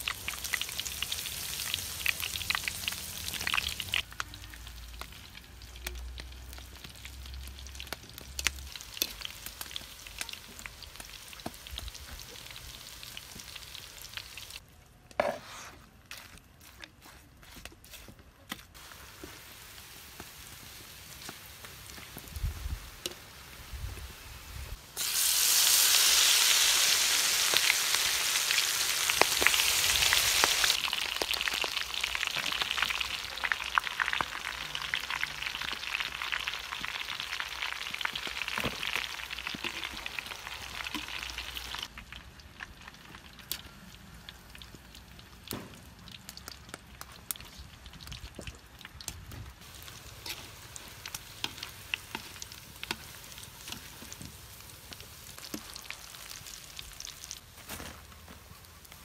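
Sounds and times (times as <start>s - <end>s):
deep-frying sizzle in hot oil: 0.0s - 14.6s, 18.8s - 59.0s
oil crackling and popping: 0.0s - 15.2s, 18.5s - 24.1s, 24.7s - 59.0s.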